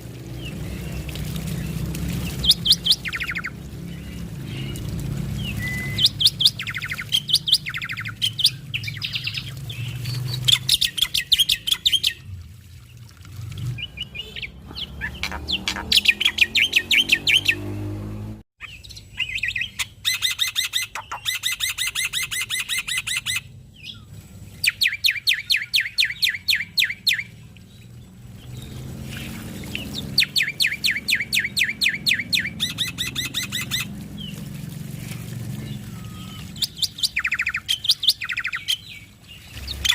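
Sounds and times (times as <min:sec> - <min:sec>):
bird chattering song: 0:00.4 - 0:12.2, 0:13.8 - 0:17.7, 0:18.6 - 0:27.5, 0:28.4 - 0:34.4, 0:35.6 - 0:39.9.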